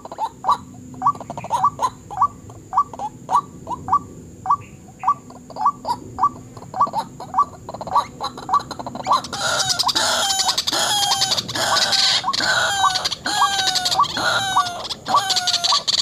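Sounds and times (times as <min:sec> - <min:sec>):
waterhen calling: 0:00.0 - 0:16.0.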